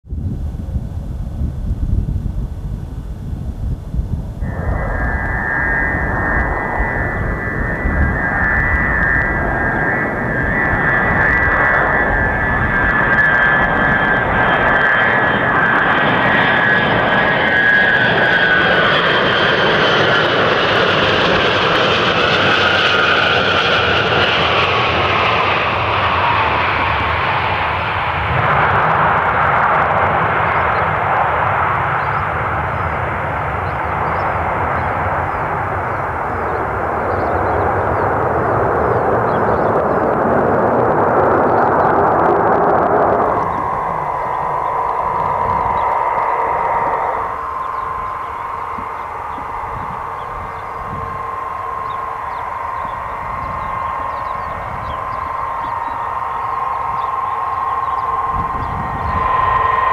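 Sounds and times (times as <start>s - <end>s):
jet airliner landing whine: 0.1s - 59.9s.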